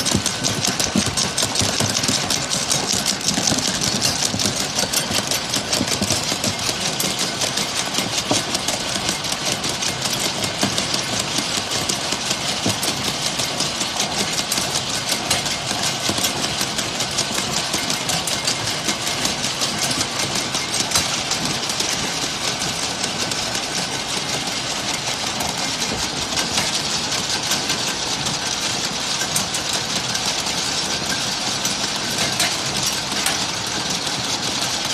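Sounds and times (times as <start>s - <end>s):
machine clattering rapid ticks: 0.0s - 34.9s.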